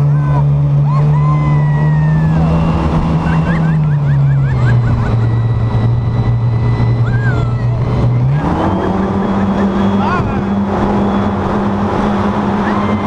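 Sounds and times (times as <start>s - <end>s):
speedboat engine droning: 0.0s - 13.0s.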